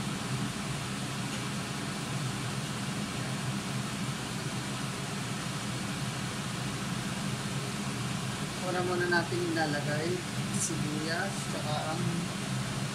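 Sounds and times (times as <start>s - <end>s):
fan humming: 0.0s - 12.9s.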